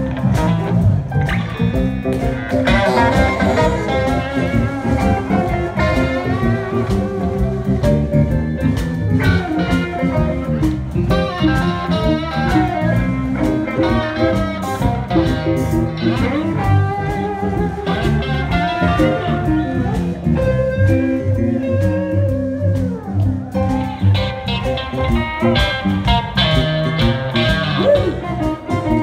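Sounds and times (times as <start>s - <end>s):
blues band playing: 0.0s - 29.0s
electric guitar bending notes: 0.0s - 29.0s.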